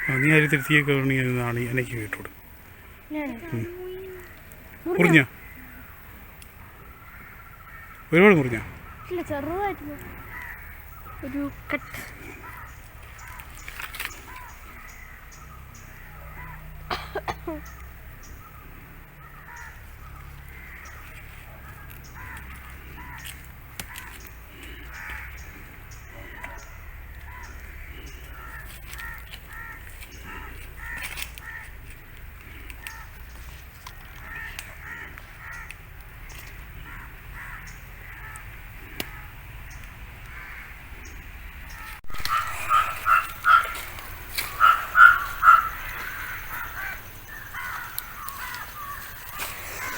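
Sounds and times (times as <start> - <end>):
crows cawing: 0.0 - 49.9.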